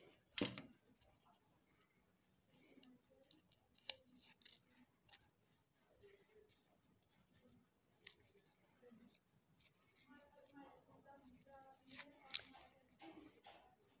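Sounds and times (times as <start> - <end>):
soft rustles and small clicks: 0.1 - 14.0.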